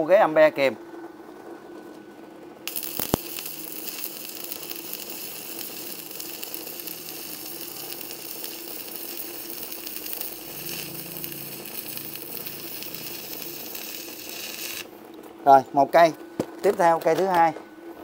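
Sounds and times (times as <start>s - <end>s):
arc welder crackling sizzle: 2.6s - 17.5s.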